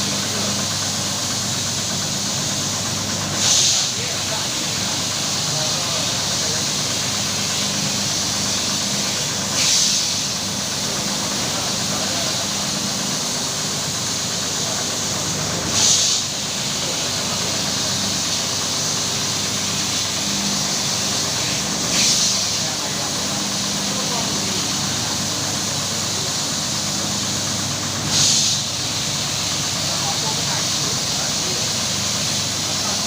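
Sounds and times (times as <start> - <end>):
carpet washing machine running: 0.0 - 33.0.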